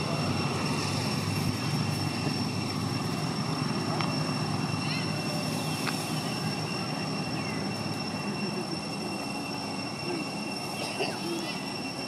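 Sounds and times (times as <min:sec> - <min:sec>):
distant low engine rumble: 0:00.0 - 0:12.0
steady high-pitched tone: 0:00.0 - 0:12.0.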